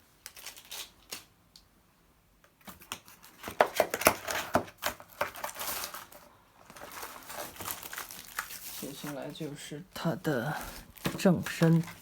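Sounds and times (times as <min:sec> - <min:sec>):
packaging crinkling and rustling: 0:00.2 - 0:01.3, 0:02.6 - 0:09.8, 0:10.4 - 0:12.0.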